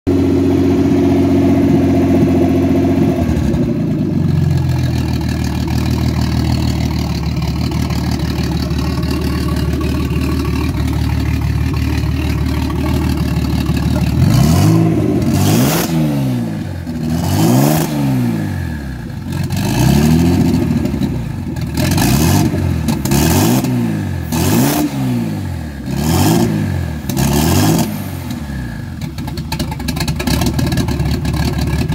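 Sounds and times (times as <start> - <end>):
car engine idling and revving: 0.1 - 31.9.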